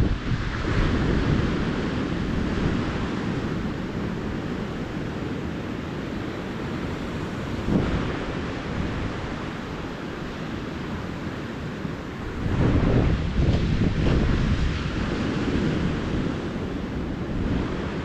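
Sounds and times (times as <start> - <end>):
ocean surf washing onto beach: 0.0 - 18.0
wave breaking: 0.0 - 18.0.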